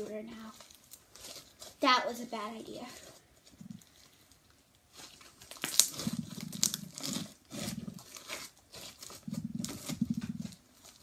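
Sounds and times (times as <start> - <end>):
slime crackling and squishing: 0.0 - 11.0.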